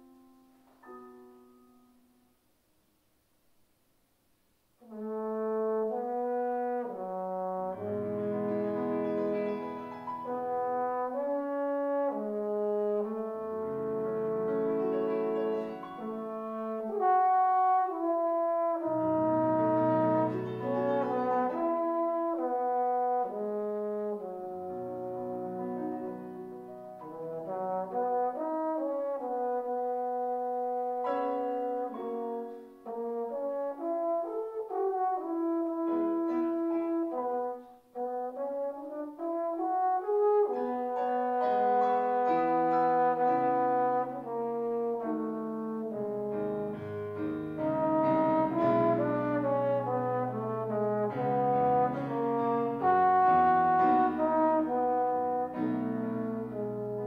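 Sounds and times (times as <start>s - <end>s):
trombone solo melody: 4.8s - 57.0s.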